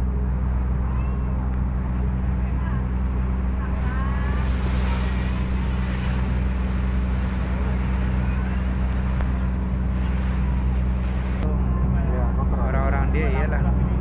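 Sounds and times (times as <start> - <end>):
hiss of wind and water: 0.0 - 11.4
boat engine droning: 0.0 - 14.0.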